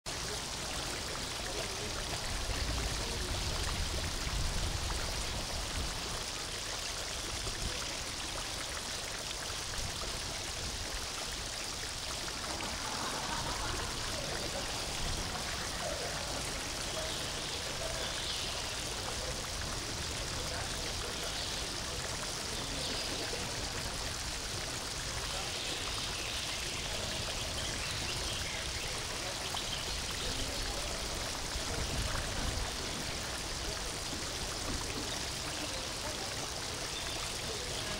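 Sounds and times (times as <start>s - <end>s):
running water rushing: 0.0s - 37.9s
faint voices: 0.1s - 37.9s.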